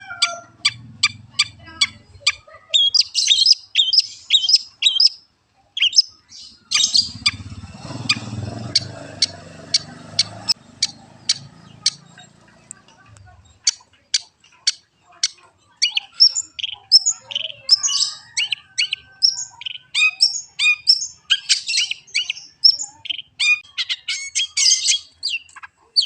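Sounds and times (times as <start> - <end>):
bird singing chip notes and warbles: 0.0 - 26.0.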